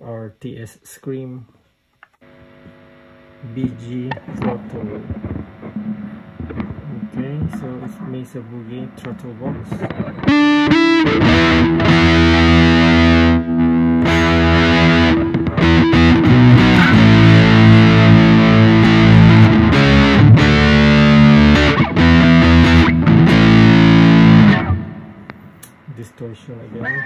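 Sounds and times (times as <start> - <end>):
distorted electric guitar chords: 2.2 - 25.9.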